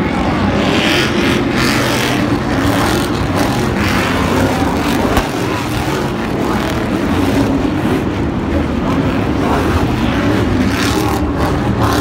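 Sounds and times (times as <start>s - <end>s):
truck engines racing: 0.0s - 12.0s.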